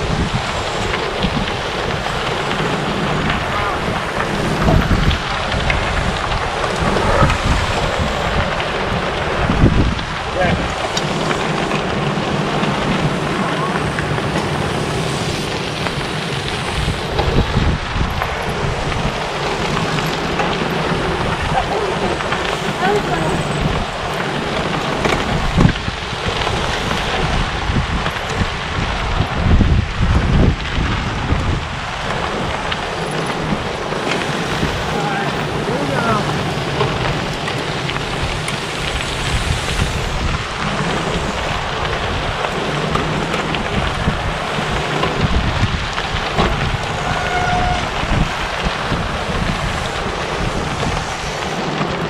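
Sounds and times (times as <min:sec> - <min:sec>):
bicycle tyres crunching on gravel: 0:00.0 - 0:52.0
wind buffeting the microphone: 0:00.0 - 0:52.0.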